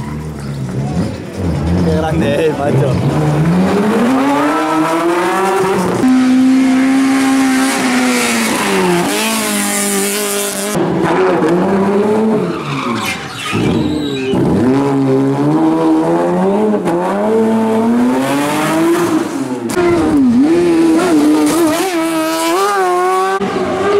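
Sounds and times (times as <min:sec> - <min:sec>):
racing car engines revving: 0:00.0 - 0:23.9.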